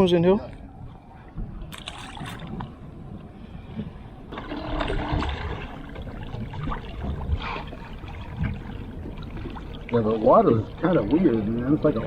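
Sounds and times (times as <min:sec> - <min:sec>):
water lapping against boat: 0:00.0 - 0:12.0.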